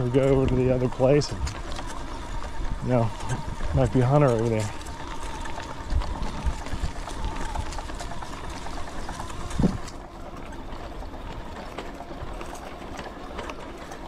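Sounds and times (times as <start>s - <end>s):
tyres rolling on trail: 0.0s - 14.0s.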